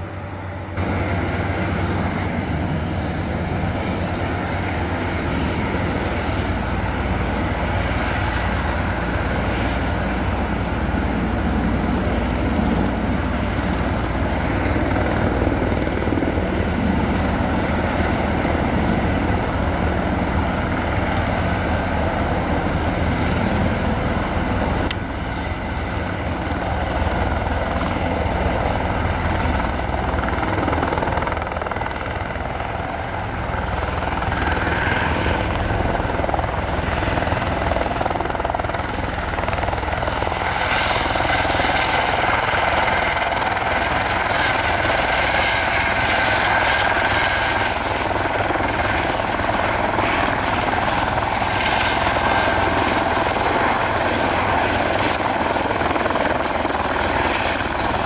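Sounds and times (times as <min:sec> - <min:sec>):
helicopter turbine and rotor: 0:00.0 - 0:58.0.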